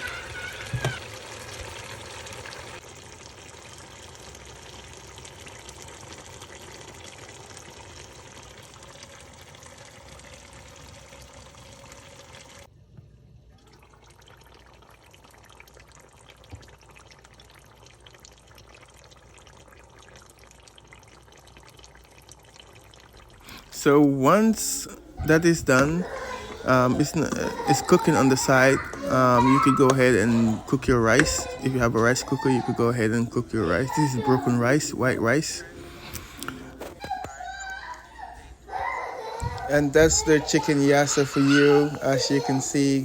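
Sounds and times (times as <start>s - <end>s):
pot simmering on stove: 0.0s - 43.0s.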